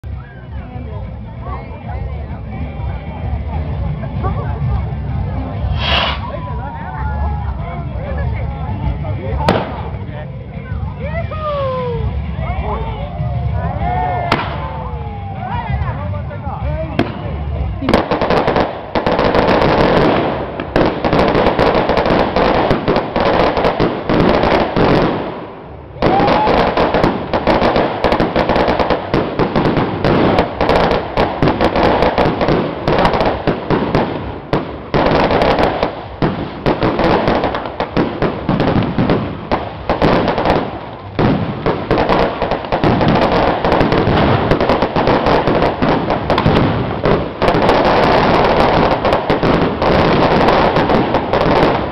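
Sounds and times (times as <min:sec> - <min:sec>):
firecrackers popping: 0:03.3 - 0:12.3, 0:14.0 - 0:16.0, 0:16.7 - 0:51.9.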